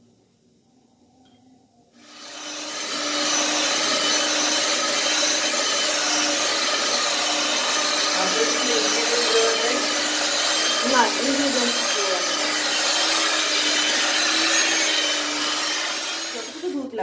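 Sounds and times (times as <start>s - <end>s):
hand mixer motor whining: 2.0s - 17.0s.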